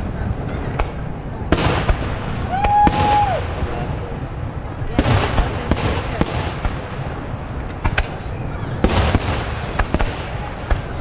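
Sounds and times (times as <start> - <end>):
fireworks bangs: 0.0 - 11.0
low rumble and crackle: 0.0 - 11.0.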